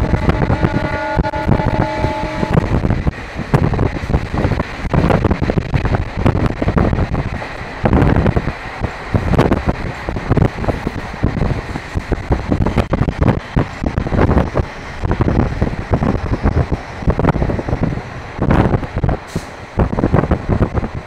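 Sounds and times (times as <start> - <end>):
train knocks and rattles: 0.0 - 21.0
train rumble: 0.0 - 21.0
wind buffeting microphone: 0.0 - 21.0.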